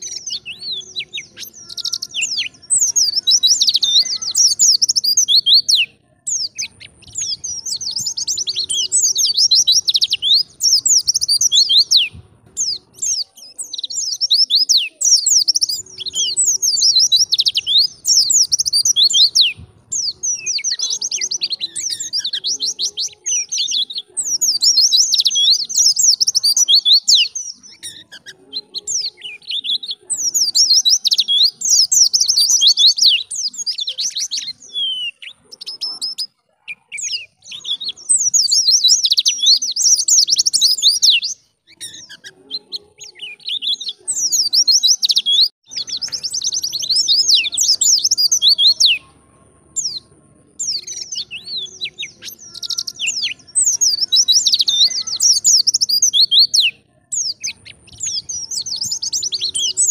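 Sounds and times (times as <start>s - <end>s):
bird twittering chirps: 0.0s - 59.9s.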